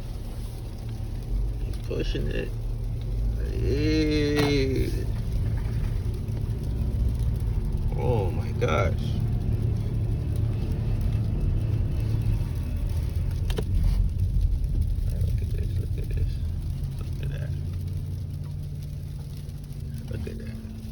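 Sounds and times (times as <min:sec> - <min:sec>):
car rumbling in traffic: 0:00.0 - 0:20.9.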